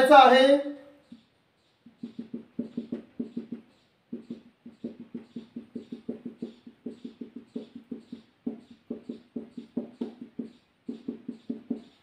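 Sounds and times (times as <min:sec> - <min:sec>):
marker tapping on whiteboard: 0:01.1 - 0:12.0.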